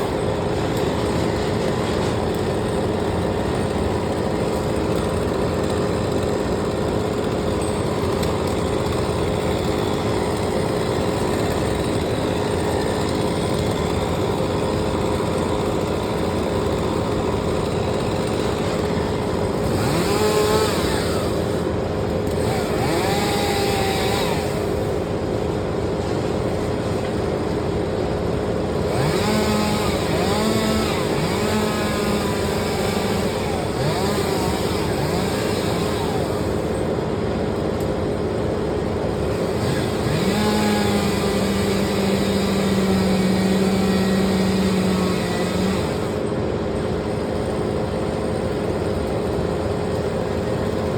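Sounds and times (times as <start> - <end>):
small engine running: 0.0 - 50.9.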